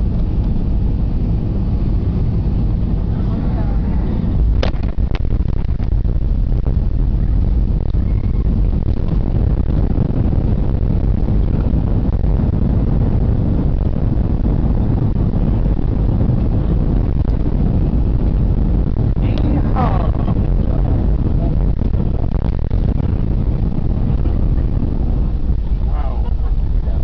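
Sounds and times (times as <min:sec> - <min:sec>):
airplane cabin low rumble: 0:00.0 - 0:27.0.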